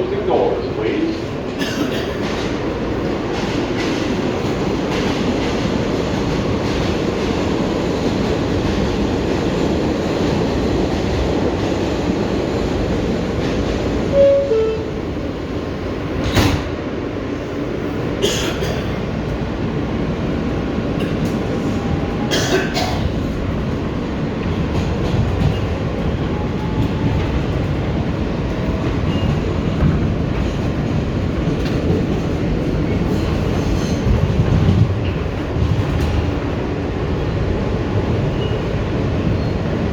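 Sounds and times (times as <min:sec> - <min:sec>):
subway train wheels rumbling: 0:00.0 - 0:39.9.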